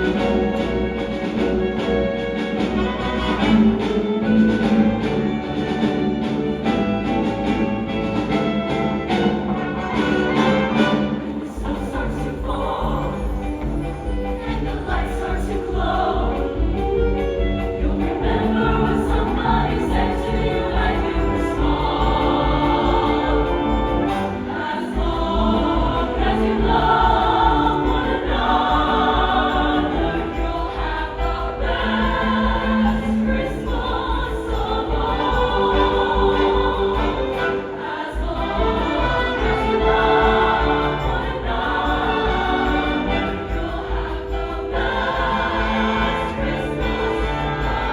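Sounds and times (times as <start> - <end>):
choir singing: 0.0 - 47.9
instrumental accompaniment with bass: 0.0 - 47.9.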